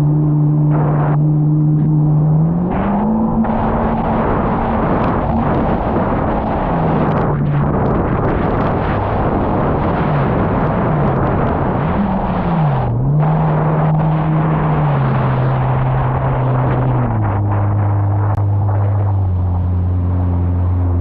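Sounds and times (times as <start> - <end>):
jet ski engine running: 0.0 - 21.0
wind rushing: 0.5 - 21.0.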